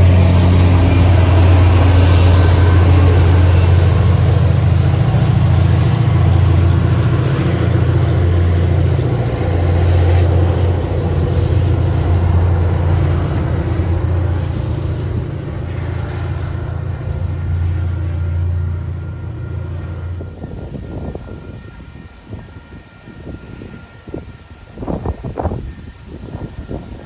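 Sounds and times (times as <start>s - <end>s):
train passing rumble: 0.0s - 27.0s.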